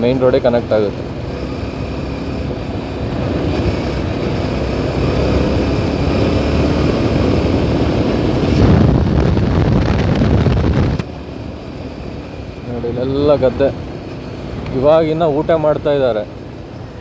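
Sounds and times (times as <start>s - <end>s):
rushing wind: 0.0s - 15.4s
motorcycle engine rumble: 0.0s - 17.0s
road noise: 0.0s - 17.0s.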